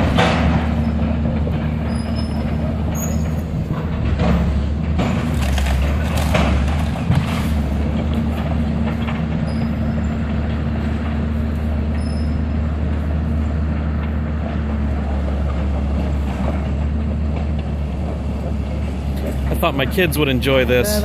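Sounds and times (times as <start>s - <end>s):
diesel demolition machine running: 0.0s - 21.0s.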